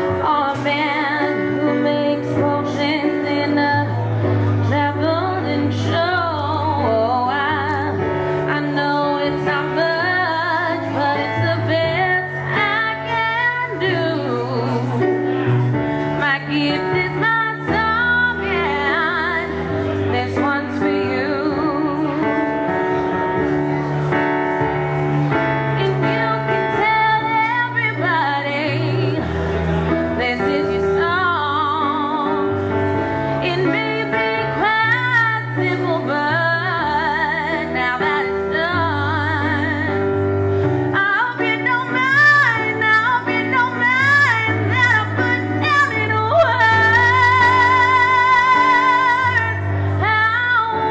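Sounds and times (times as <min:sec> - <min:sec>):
woman singing with vibrato: 0:00.0 - 0:22.6, 0:25.8 - 0:29.4, 0:30.1 - 0:32.7, 0:33.3 - 0:40.2, 0:40.9 - 0:50.9.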